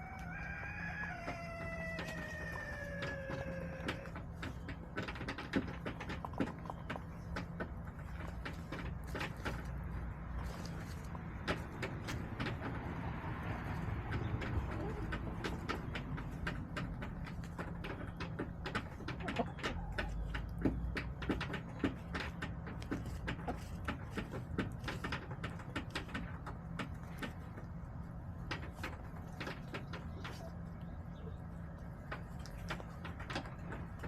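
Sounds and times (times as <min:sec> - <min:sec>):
hens clucking softly: 0:00.0 - 0:34.0.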